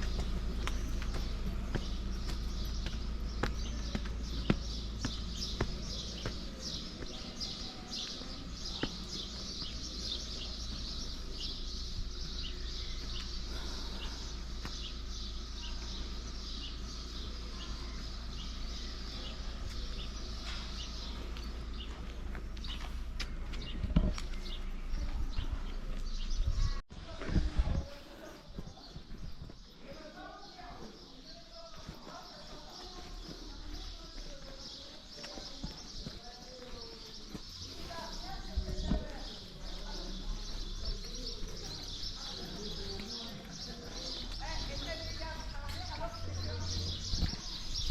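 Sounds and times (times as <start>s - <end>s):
steady low rumble: 0.0s - 29.7s, 32.6s - 47.9s
small birds chirping: 0.0s - 47.9s.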